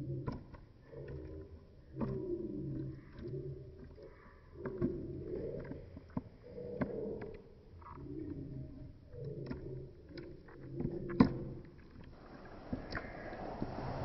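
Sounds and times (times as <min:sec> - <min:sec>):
teeth clicking on bone: 0:00.0 - 0:12.2.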